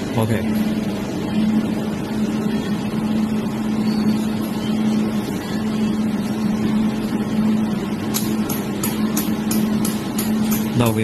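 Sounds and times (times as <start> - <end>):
laser welding machine hum: 0.0 - 11.0.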